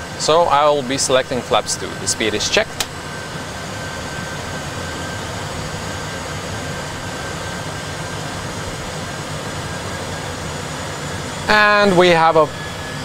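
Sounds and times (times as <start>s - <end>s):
faint high whine: 0.0s - 13.0s
simulated jet engine and airflow rush: 0.0s - 13.0s.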